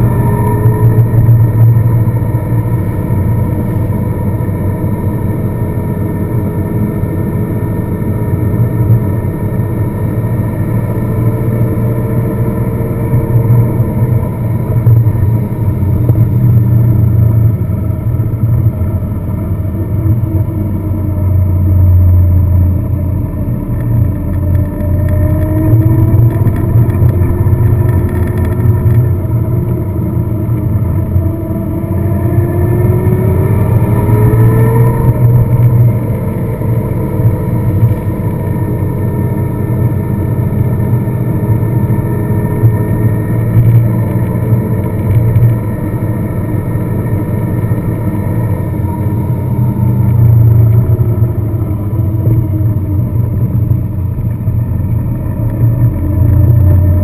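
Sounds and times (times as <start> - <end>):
car engine running: 0.0 - 57.0
road rumble: 0.0 - 57.0.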